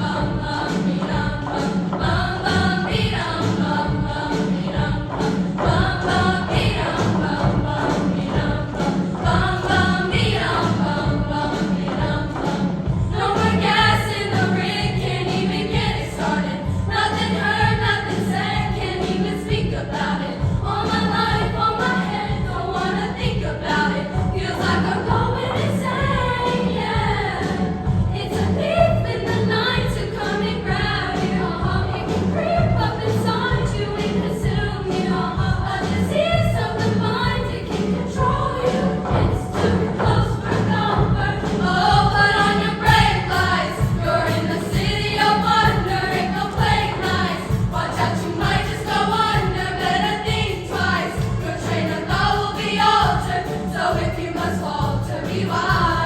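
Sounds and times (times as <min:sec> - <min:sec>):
girls choir singing: 0:00.0 - 0:56.0.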